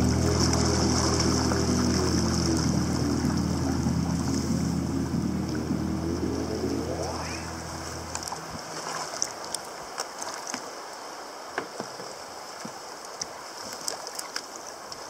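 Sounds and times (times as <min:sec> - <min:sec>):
paddle splashes and drips: 0:00.0 - 0:05.7, 0:07.9 - 0:15.0
water lapping around a hull: 0:00.0 - 0:15.0.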